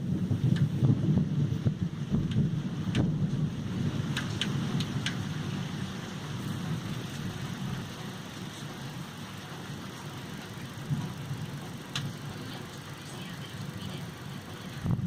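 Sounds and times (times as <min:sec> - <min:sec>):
rain hissing: 0:00.0 - 0:15.0
thunder rumble: 0:00.0 - 0:15.0.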